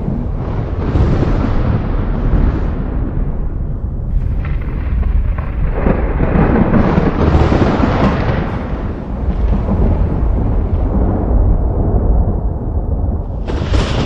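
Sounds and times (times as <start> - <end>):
rolling thunder: 0.0 - 14.0.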